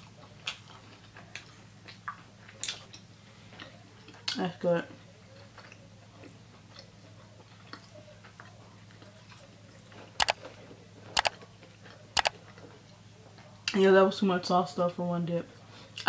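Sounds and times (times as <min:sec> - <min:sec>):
soft chewing: 0:00.0 - 0:13.8.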